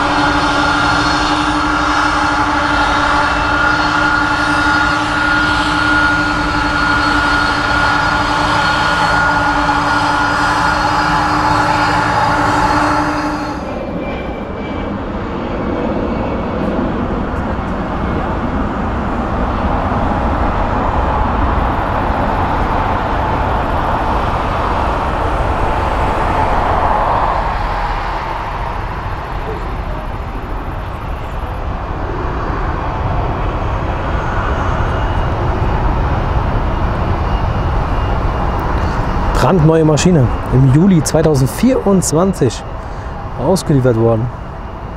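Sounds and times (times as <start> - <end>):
jet roar with whine: 0.0 - 44.9.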